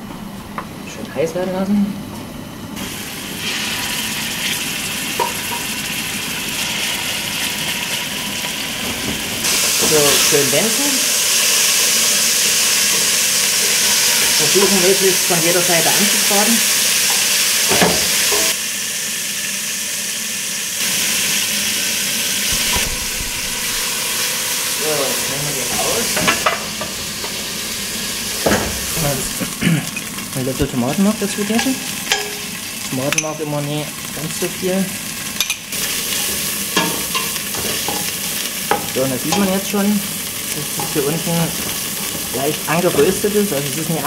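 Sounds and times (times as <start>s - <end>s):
hot oil sizzling: 2.8s - 44.0s.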